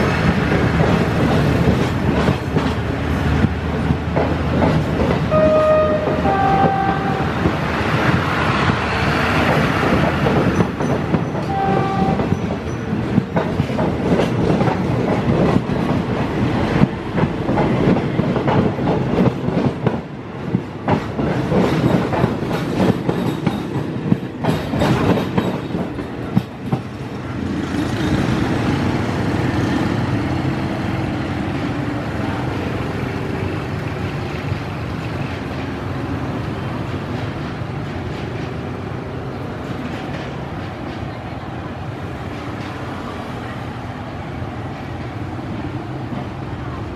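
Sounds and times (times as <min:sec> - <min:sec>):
smooth train rumble: 0:00.0 - 0:46.9
train wheels clattering over rails: 0:00.0 - 0:46.9.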